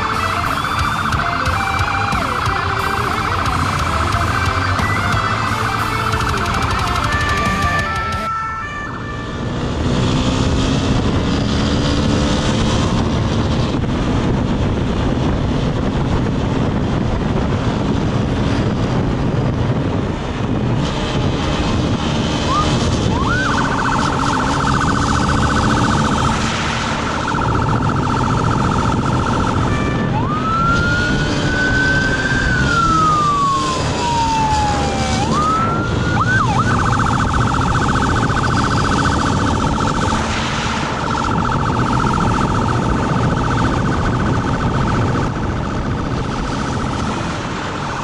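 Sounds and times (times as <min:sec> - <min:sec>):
police siren warbling and wailing: 0:00.0 - 0:17.0, 0:22.1 - 0:48.0
motorcycle engine rumble: 0:00.0 - 0:48.0.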